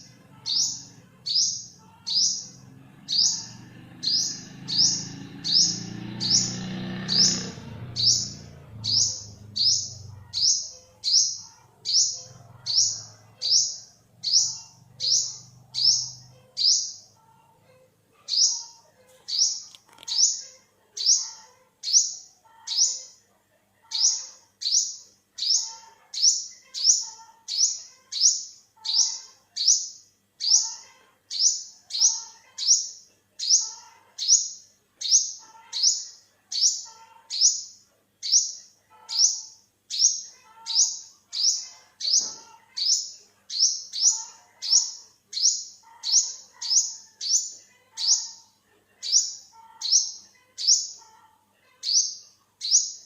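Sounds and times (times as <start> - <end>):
bird chirping: 0.0 - 53.0.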